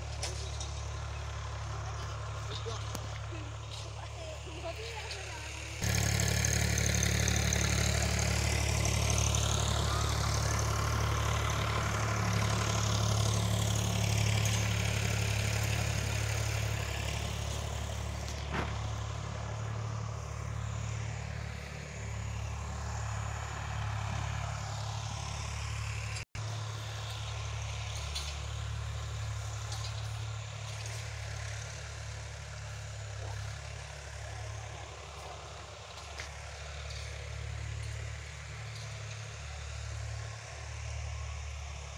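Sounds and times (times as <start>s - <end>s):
engine humming: 0.0s - 41.9s.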